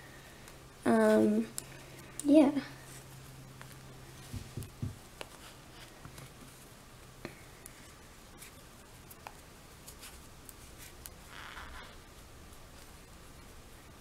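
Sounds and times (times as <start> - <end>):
low room hiss: 0.0 - 14.0.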